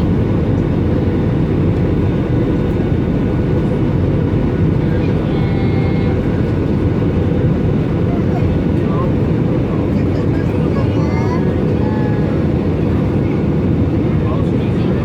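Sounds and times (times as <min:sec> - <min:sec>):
airliner cabin engine and airflow rumble: 0:00.0 - 0:15.0.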